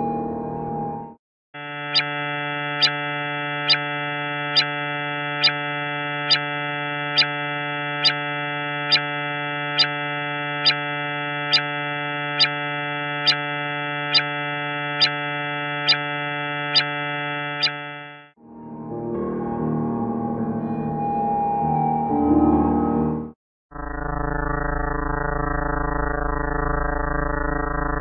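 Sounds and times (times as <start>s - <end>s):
low buzzy synthesized drone: 0.0s - 22.3s, 23.7s - 28.0s.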